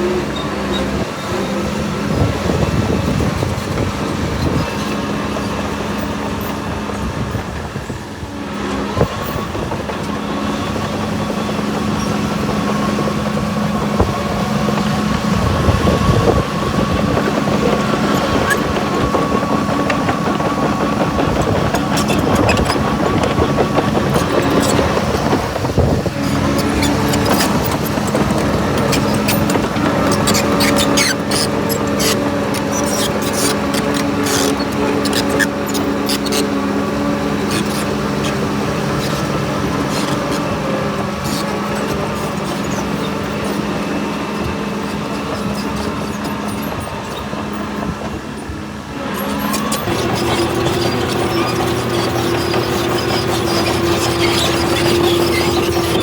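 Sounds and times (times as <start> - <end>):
bulldozer engine running: 0.0 - 56.0.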